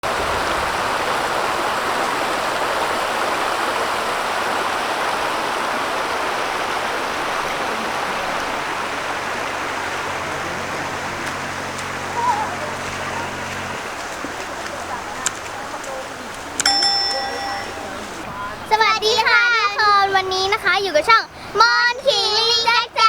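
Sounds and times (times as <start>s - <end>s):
waterfall rushing: 0.0s - 19.6s.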